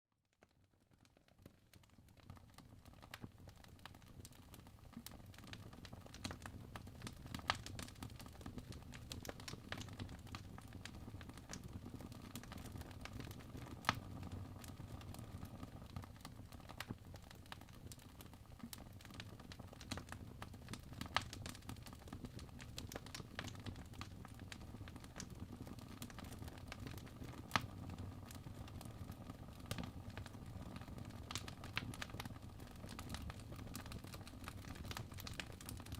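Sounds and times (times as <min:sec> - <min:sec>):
logs crackling in fireplace: 0:00.4 - 0:35.9
fire popping: 0:01.3 - 0:35.9
low rumble of fire: 0:01.4 - 0:35.9.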